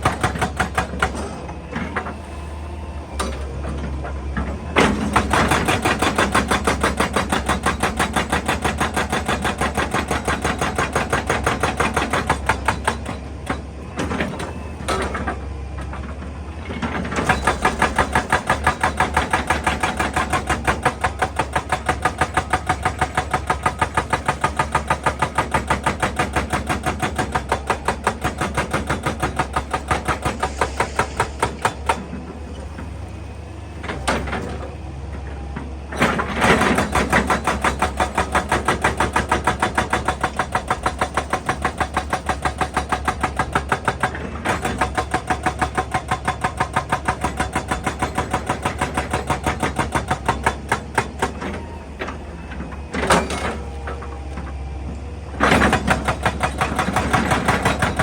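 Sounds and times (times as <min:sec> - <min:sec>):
hydraulic breaker pounding rock: 0:00.0 - 0:02.2, 0:03.1 - 0:58.0.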